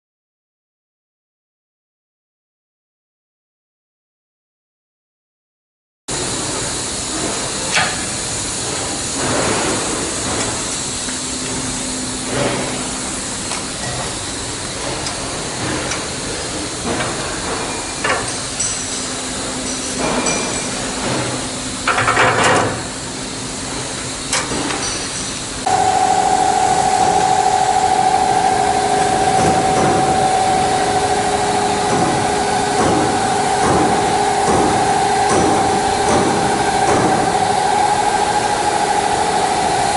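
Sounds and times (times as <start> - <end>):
machinery hissing: 6.1 - 22.0, 22.6 - 39.9
machine whine: 6.1 - 39.9.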